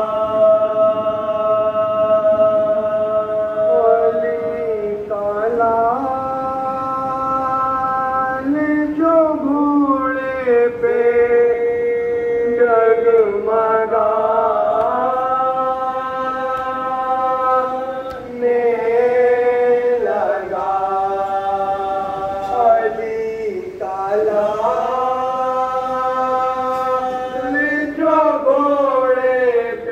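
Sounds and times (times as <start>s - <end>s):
men chanting a lament: 0.0s - 29.9s.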